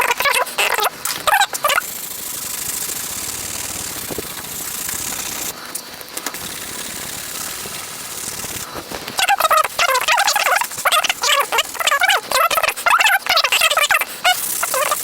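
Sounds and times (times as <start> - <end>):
sandpaper scraping: 1.6 - 5.6, 6.4 - 15.0.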